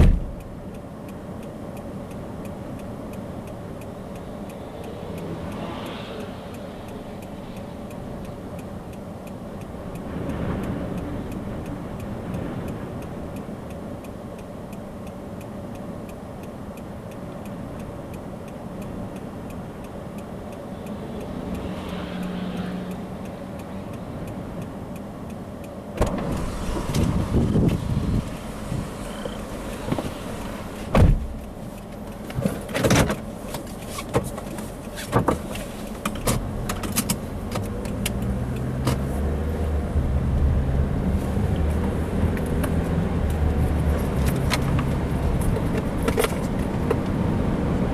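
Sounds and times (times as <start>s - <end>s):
vehicle running noise: 0.0s - 47.9s
faint regular ticking: 0.2s - 47.8s.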